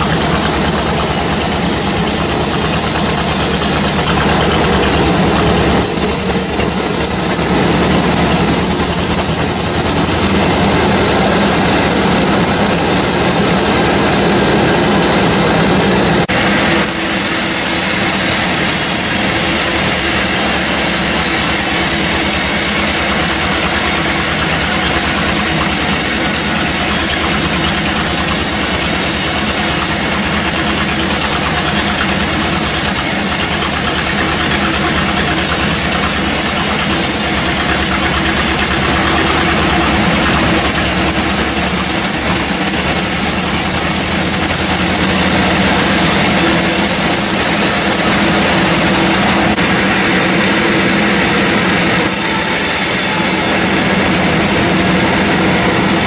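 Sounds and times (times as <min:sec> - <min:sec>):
sawmill saw cutting a log: 0:00.0 - 0:56.0.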